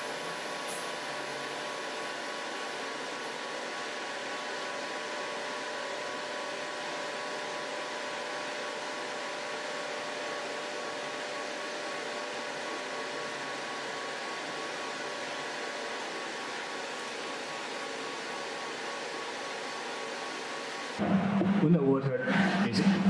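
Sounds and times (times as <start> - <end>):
cooling pump whirring: 0.0 - 23.0.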